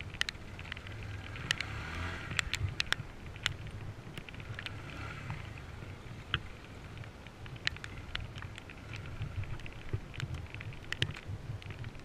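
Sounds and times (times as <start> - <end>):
small motorcycle engine at low revs: 0.0 - 12.0.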